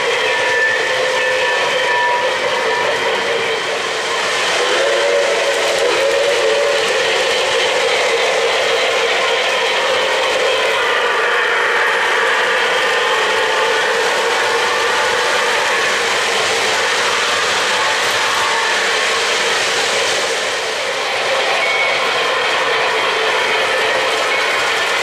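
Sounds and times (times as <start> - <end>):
model trains whirring and clattering: 0.0 - 25.0.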